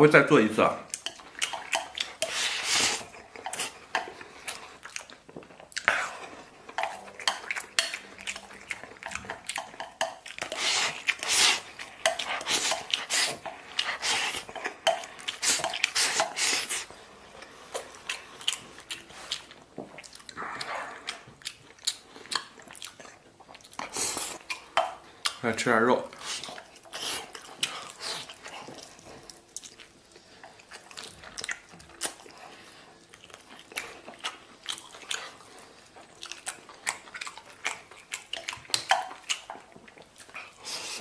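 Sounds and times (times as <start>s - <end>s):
chewing: 0.8s - 41.0s.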